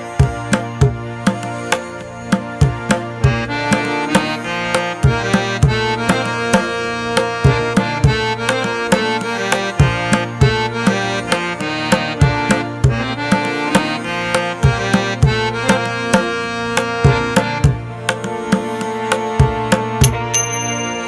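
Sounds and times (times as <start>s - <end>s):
held melodic notes: 0.0s - 21.0s.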